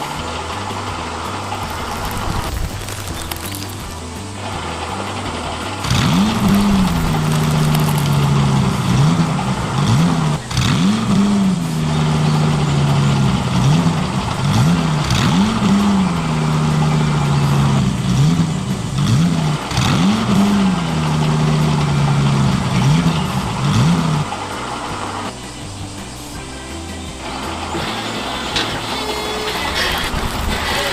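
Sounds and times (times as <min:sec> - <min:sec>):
toy vehicle engine revving: 0:00.0 - 0:30.9.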